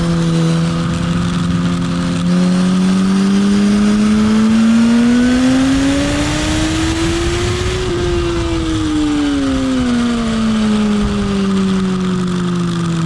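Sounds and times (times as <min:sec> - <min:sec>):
motorcycle engine revving: 0:00.0 - 0:13.0
wind noise: 0:00.0 - 0:13.0.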